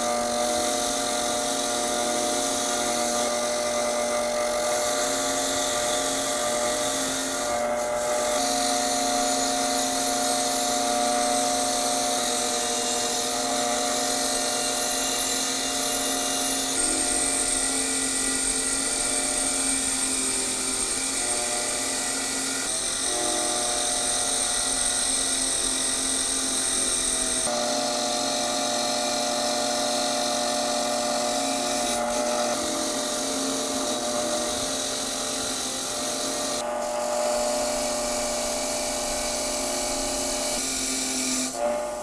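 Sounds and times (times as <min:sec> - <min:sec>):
electric power tool whining: 0:00.0 - 0:42.0.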